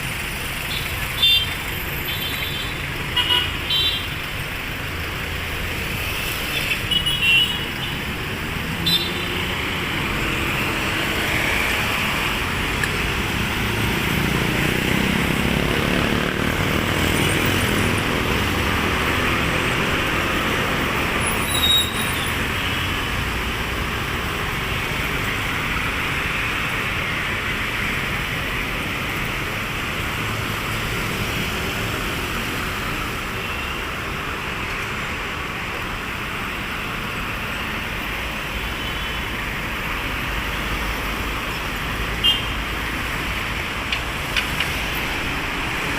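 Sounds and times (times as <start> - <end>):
street traffic passing: 0.0 - 45.9.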